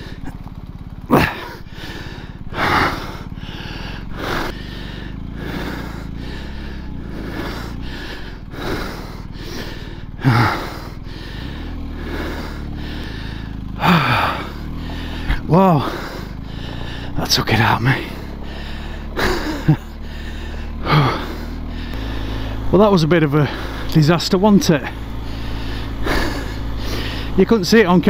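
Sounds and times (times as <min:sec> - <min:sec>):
man breathing hard: 0:00.0 - 0:00.4, 0:01.1 - 0:22.8, 0:23.4 - 0:24.0, 0:24.9 - 0:27.5
motorcycle engine idling: 0:00.0 - 0:28.0.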